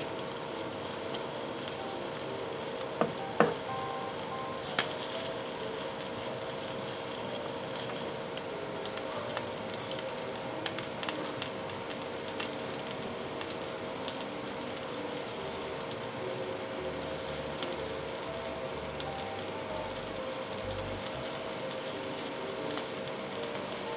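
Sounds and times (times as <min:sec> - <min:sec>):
batter sizzling in a pan: 0:00.0 - 0:23.9.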